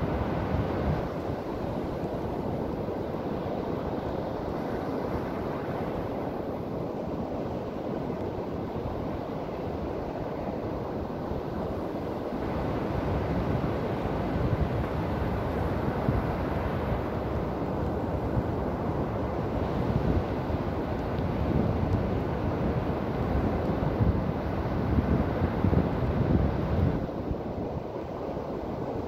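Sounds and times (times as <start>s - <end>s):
ocean surf on sandy beach: 0.0s - 29.0s.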